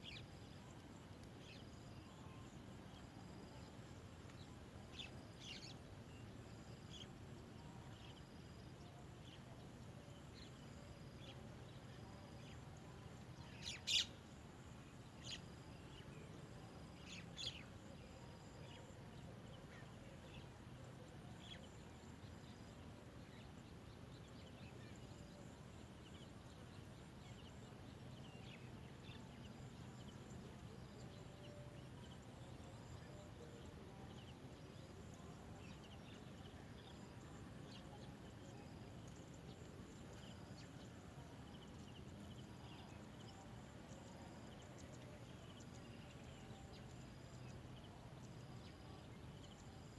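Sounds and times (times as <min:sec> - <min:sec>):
faint steady background noise: 0:00.0 - 0:49.9.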